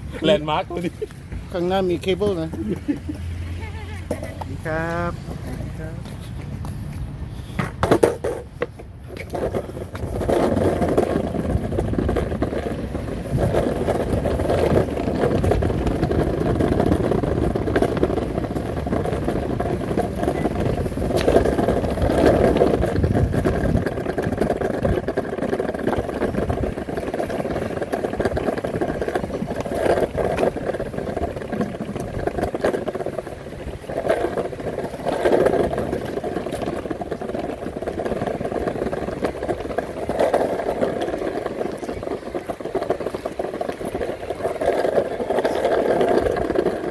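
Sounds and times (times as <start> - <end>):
skateboard wheels rolling on pavement: 0.0 - 46.9.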